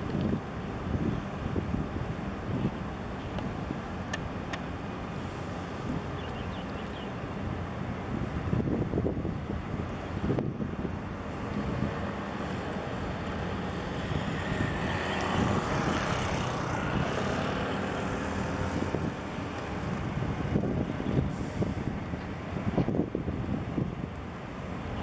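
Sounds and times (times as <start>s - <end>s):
wind buffeting microphone: 0.0s - 4.0s, 5.0s - 25.0s.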